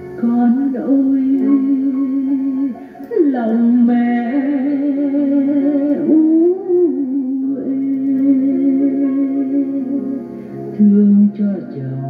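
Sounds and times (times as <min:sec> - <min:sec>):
song from cassette tape: 0:00.0 - 0:12.0.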